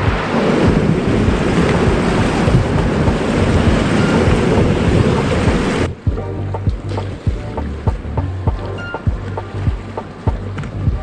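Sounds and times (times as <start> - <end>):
whitewater rushing: 0.0 - 11.0
wind on microphone: 0.0 - 11.0.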